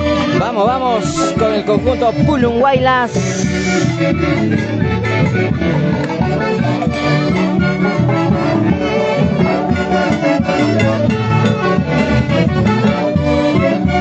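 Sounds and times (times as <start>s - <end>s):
live band dance music: 0.0s - 14.0s.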